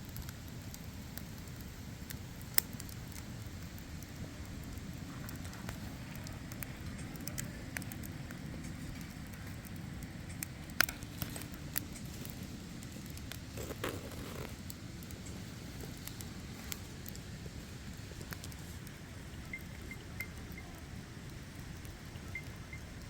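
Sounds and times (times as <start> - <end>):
low steady rumble: 0.0 - 23.0
sharp pops of fire: 0.0 - 23.0
wood fire crackling: 0.0 - 23.0.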